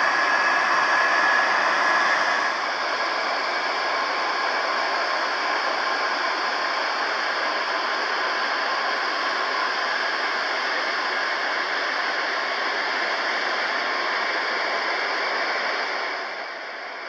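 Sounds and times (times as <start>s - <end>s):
jet engines hissing with faint whine: 0.0s - 17.0s.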